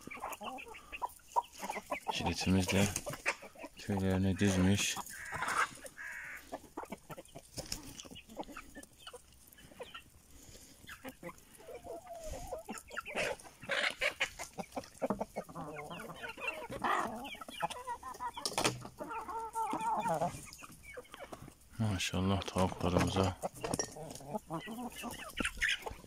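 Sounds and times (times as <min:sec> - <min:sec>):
hens clucking: 0:00.0 - 0:26.0
scratching in dry leaves and straw: 0:00.0 - 0:26.0.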